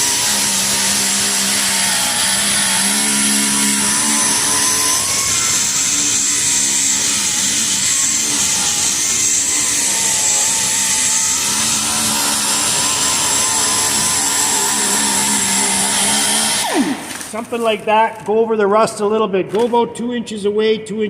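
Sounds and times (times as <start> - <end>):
angle grinder grinding metal: 0.0 - 17.7.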